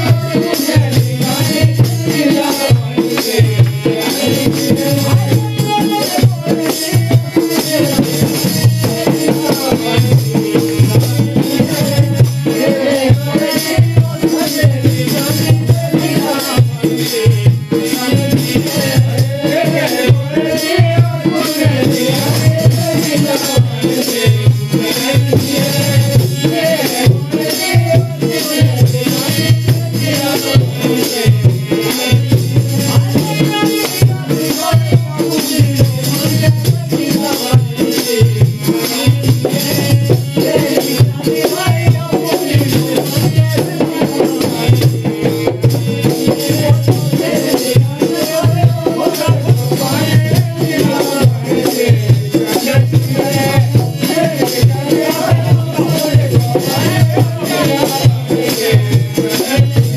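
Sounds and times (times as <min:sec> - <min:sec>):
hand drum beating: 0:00.0 - 0:59.9.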